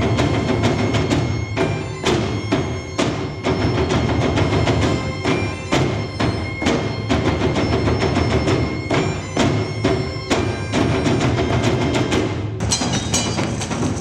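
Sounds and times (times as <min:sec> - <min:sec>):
bagpipe melody: 0:00.0 - 0:12.1
barrel drums beaten with sticks: 0:00.0 - 0:14.0.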